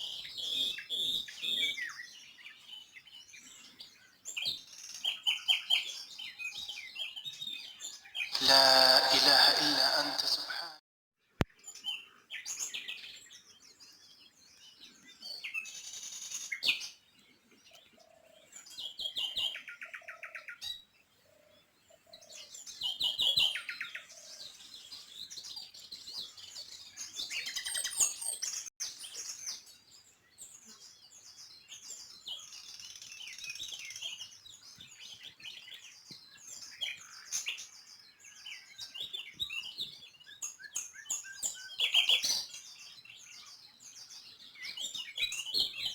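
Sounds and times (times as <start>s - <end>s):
small birds chirping and trilling: 0.0s - 8.9s, 11.5s - 45.9s.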